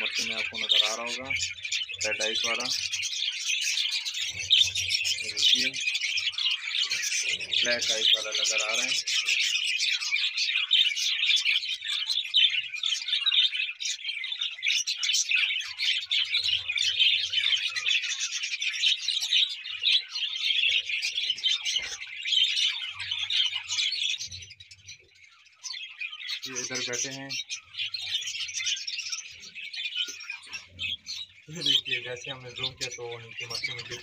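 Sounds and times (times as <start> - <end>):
budgerigars chattering and chirping: 0.0 - 34.0.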